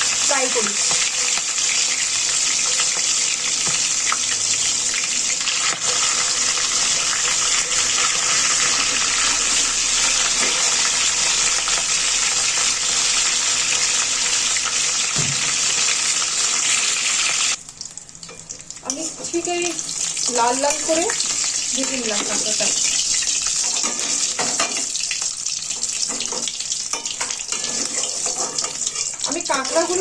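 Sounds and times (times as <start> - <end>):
crab frying in hot oil: 0.0 - 30.0.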